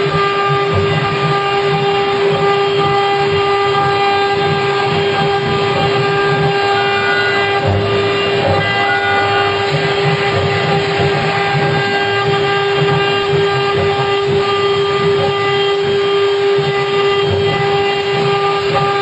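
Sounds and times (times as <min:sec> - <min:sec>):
woodworking machine whining: 0:00.0 - 0:19.0.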